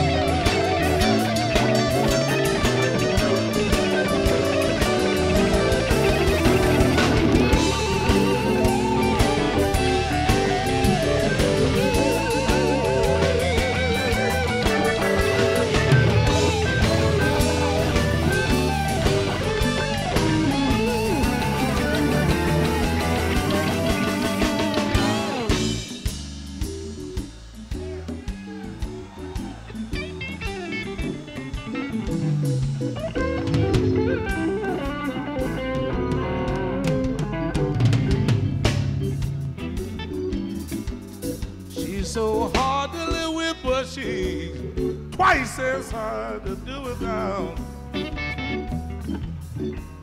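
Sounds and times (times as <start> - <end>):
electric guitar lead: 0.0 - 50.0
steady drums: 0.0 - 50.0.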